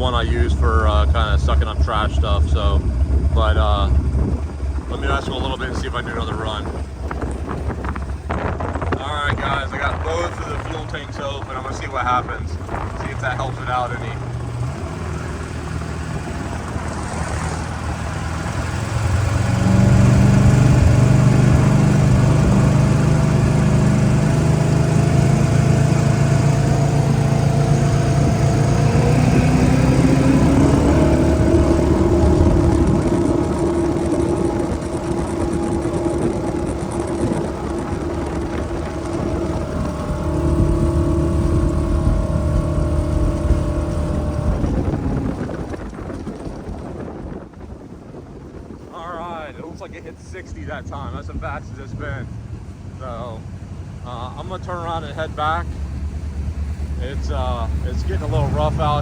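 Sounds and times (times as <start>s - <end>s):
jet boat engine running hard: 0.0s - 59.0s.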